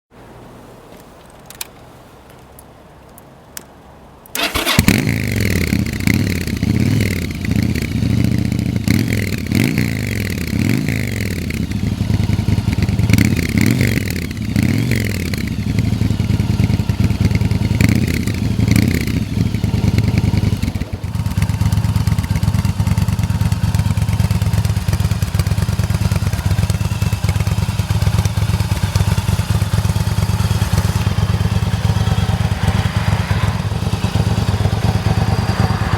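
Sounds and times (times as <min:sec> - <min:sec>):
motorcycle engine revving and idling: 0:04.4 - 0:35.9.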